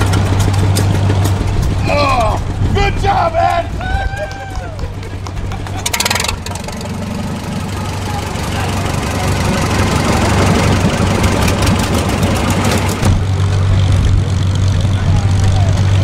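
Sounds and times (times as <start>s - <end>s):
old tractor engines running: 0.0s - 16.0s
tractor engine running slowly: 0.0s - 16.0s.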